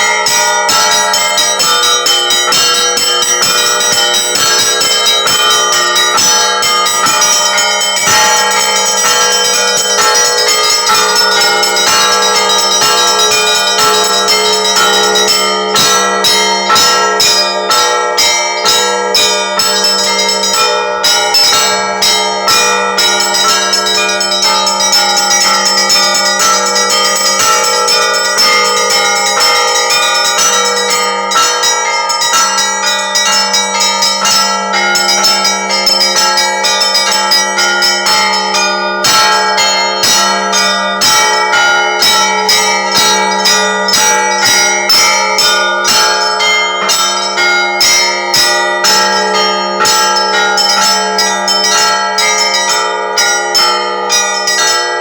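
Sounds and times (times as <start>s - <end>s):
large low bell hum: 0.0s - 55.0s
small church bells ringing: 0.0s - 55.0s.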